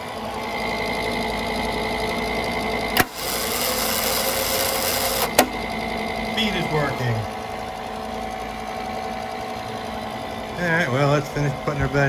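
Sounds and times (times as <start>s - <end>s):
welder cooling fan humming: 0.0s - 12.0s
wire-feed motor whine: 0.0s - 12.0s.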